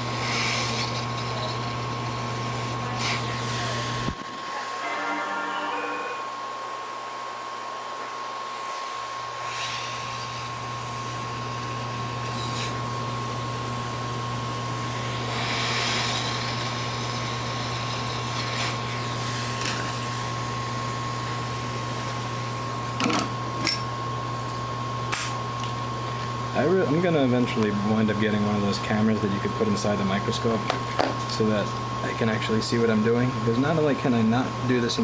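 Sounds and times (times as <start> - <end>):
hot air blower hum and hiss: 0.0 - 35.0.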